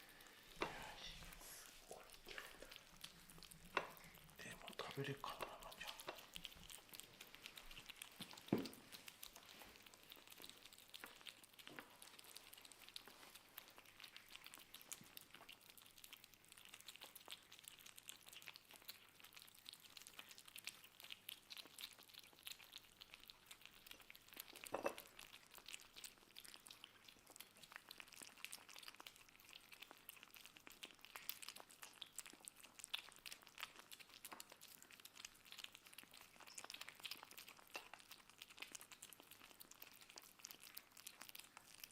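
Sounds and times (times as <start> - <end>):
kittens chewing: 0.0 - 41.9.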